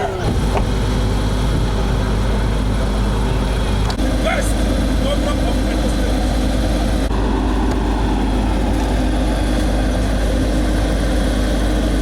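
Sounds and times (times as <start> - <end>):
large engine droning: 0.0 - 12.0.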